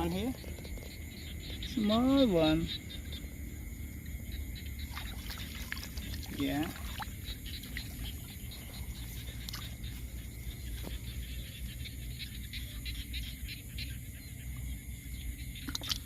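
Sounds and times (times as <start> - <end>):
low steady rumble: 0.0 - 15.7
frogs and insects calling: 0.0 - 16.0.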